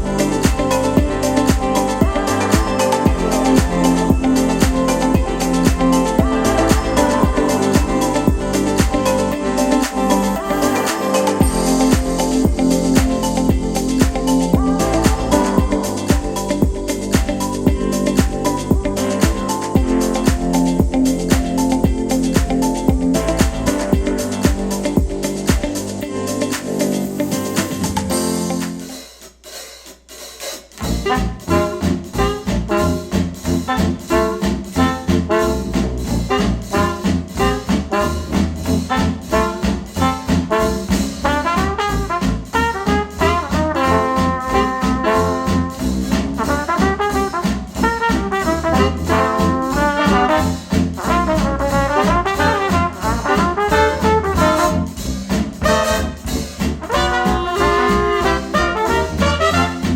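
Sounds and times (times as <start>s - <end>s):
jazz band with trombone and trumpet: 0.0s - 29.2s, 30.2s - 59.9s.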